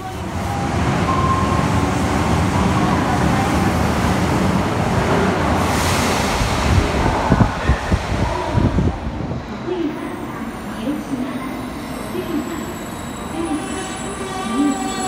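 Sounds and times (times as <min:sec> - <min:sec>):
subway train rushing and rumbling: 0:00.0 - 0:15.0.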